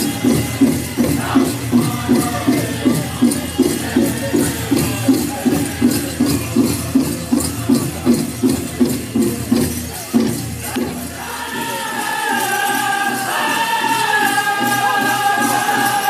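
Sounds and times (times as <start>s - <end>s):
drum beaten steadily: 0.0s - 16.0s.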